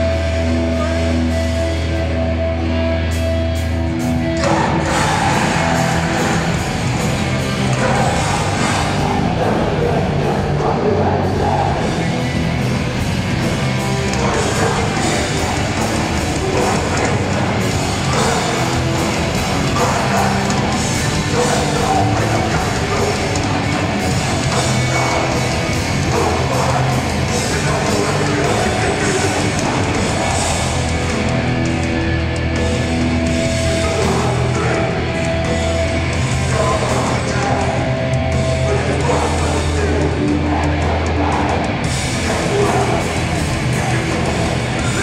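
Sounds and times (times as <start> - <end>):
distorted guitars: 0.0 - 45.0
drums: 0.0 - 45.0
shouted vocals: 4.2 - 31.7, 33.1 - 45.0.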